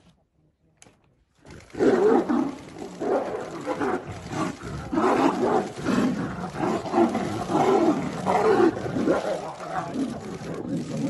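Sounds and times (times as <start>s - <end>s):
tigers growling and roaring: 1.5s - 11.0s.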